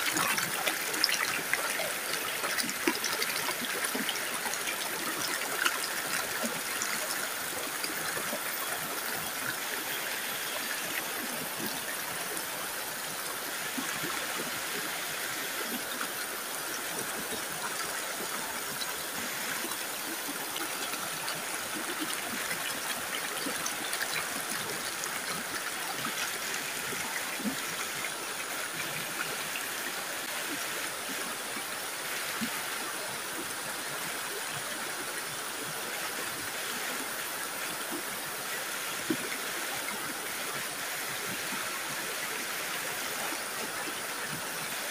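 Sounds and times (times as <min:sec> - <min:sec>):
stream flowing over rocks: 0:00.0 - 0:44.9.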